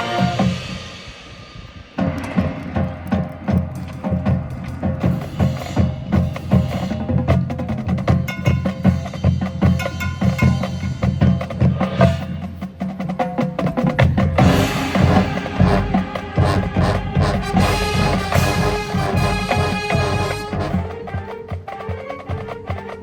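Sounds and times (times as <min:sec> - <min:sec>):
drums in a quick rhythm: 0:00.0 - 0:23.0
marching band playing: 0:00.0 - 0:23.0.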